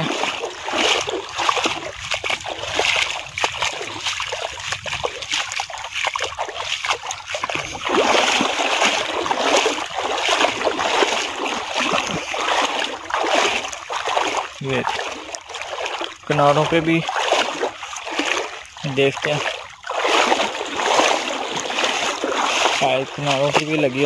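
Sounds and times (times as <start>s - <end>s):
wading splashes in shallow water: 0.0s - 24.0s.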